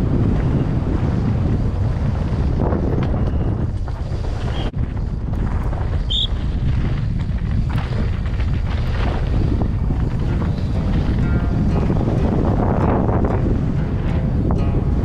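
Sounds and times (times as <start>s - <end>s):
bike rattling over rocky trail: 0.0s - 15.0s
wind rushing over microphone: 0.0s - 15.0s.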